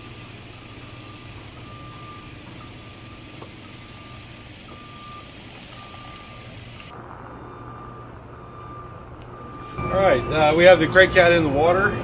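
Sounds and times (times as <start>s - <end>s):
truck engine humming: 0.0s - 12.0s
reversing beeper: 0.8s - 12.0s.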